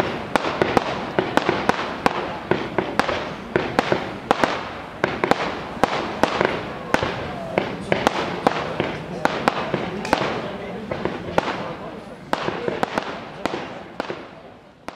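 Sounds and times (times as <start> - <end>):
fireworks bangs: 0.0 - 14.9
fireworks crackling hiss: 0.0 - 14.9.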